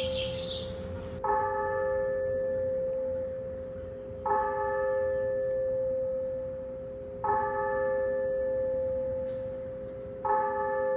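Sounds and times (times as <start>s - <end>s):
tower bell tolling: 0.0s - 10.9s.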